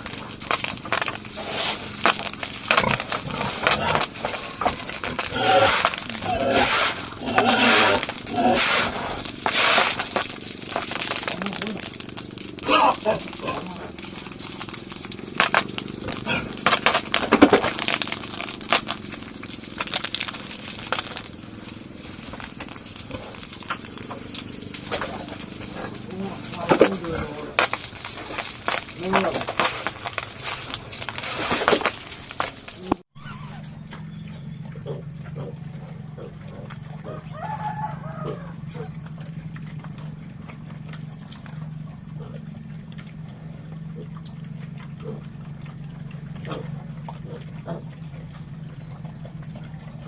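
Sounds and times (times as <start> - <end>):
farm animals calling: 0.0 - 50.0
pigs chewing and snuffling: 0.0 - 50.0
steady low hum: 0.0 - 50.0.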